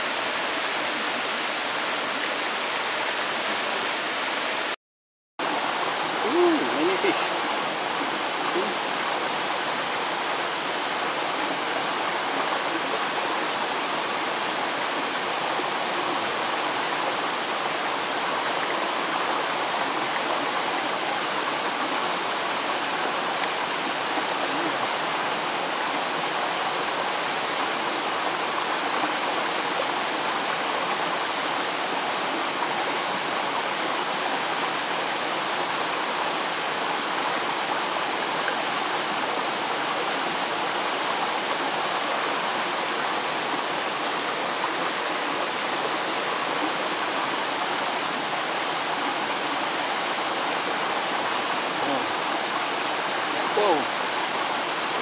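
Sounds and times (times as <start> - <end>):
stream water running over stones: 0.0 - 4.8, 5.4 - 55.0.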